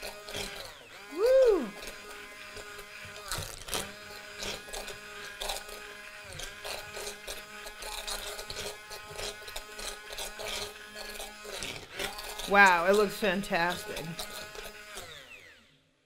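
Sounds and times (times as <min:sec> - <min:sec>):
immersion blender running: 0:00.0 - 0:16.0.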